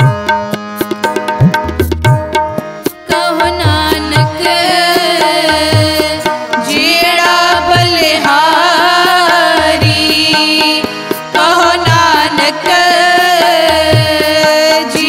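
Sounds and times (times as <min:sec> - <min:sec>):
tabla strokes: 0:00.0 - 0:15.0.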